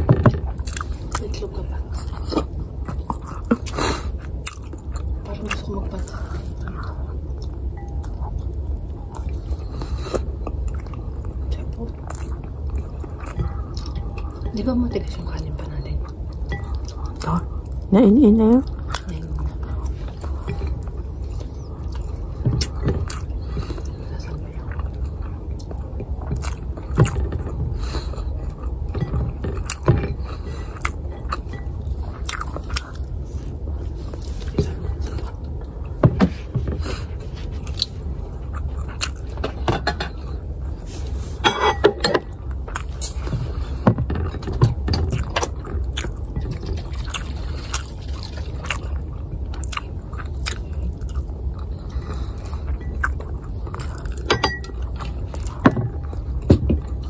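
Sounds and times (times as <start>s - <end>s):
person chewing food: 0.0s - 17.9s, 18.6s - 57.0s
steady low hum: 0.0s - 57.0s.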